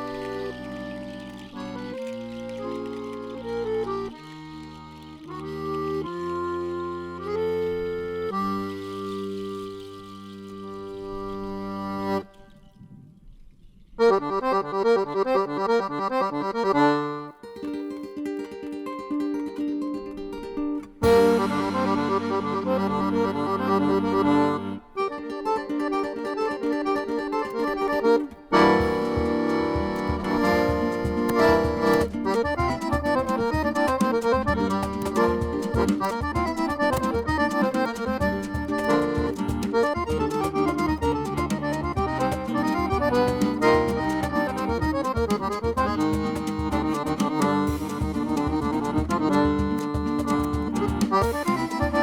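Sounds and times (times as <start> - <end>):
accordion music: 0.0 - 12.7, 14.0 - 52.0.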